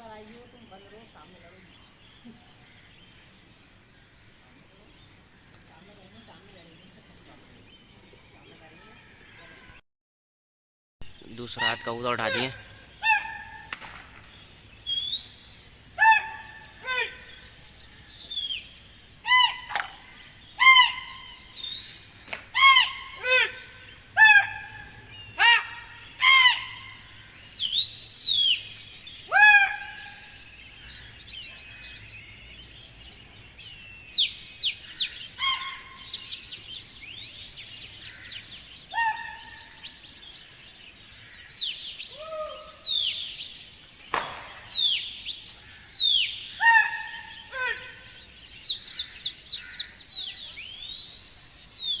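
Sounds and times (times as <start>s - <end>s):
birds chirping: 0.0s - 9.8s, 11.0s - 52.0s.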